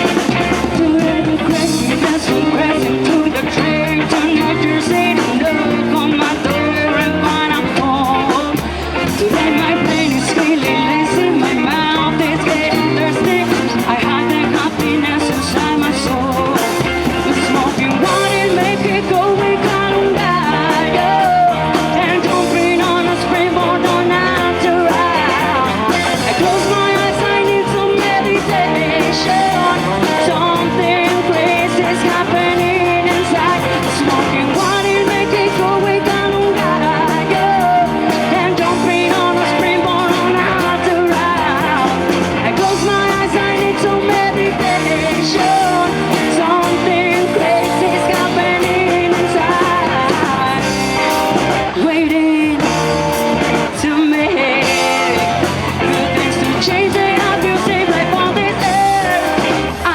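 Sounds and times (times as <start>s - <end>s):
person singing: 0.0s - 59.9s
rock band playing: 0.0s - 59.9s.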